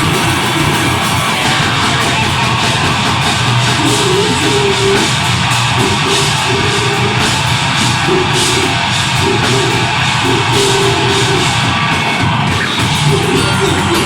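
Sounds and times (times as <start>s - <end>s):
cymbals crashing: 0.0s - 14.0s
distorted guitars and bass riffing: 0.0s - 14.0s
drums: 0.0s - 14.0s.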